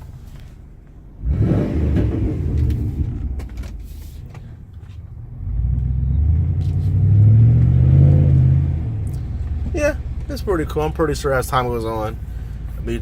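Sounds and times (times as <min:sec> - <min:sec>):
truck exhaust deep rumble: 0:00.0 - 0:13.0.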